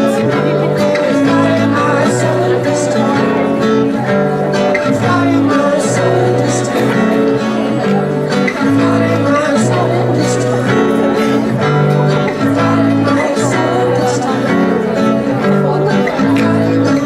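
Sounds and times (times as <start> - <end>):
acoustic music chords: 0.0 - 17.0.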